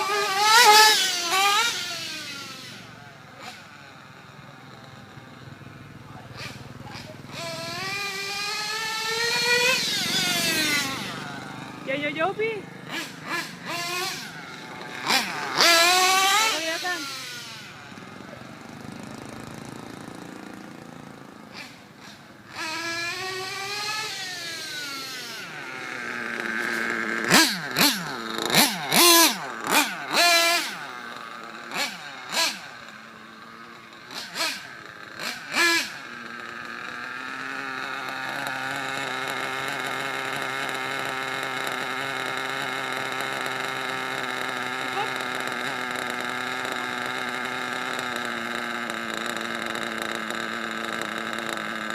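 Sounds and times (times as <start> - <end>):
model engine revving: 0.0 - 51.9.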